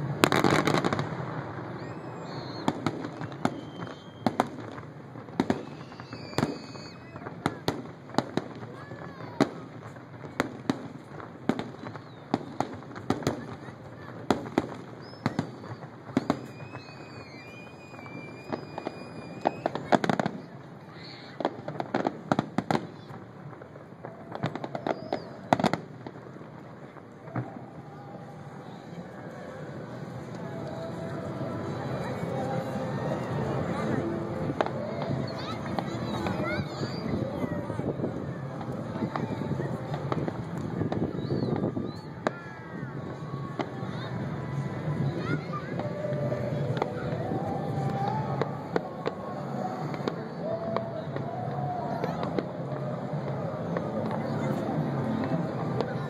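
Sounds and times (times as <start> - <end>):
fireworks bangs and pops: 0.0 - 56.0
steady background noise: 0.0 - 56.0.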